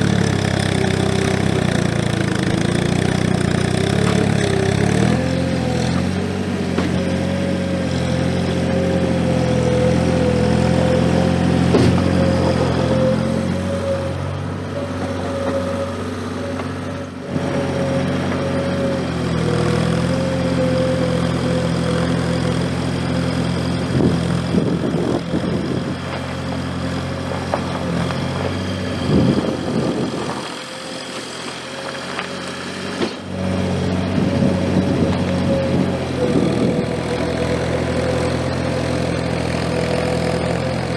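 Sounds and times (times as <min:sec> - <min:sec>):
skid steer engine running: 0:00.0 - 0:40.9.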